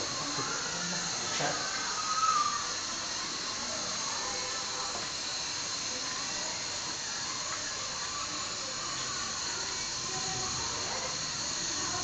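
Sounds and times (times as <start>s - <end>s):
pot of water hissing on burner: 0.0s - 12.0s.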